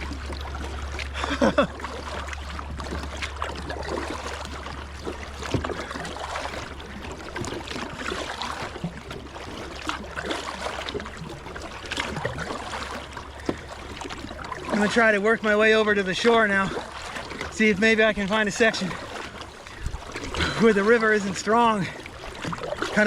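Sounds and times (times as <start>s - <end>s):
kayak paddle strokes splashing: 0.0s - 23.0s
river water running and gurgling: 0.0s - 23.0s.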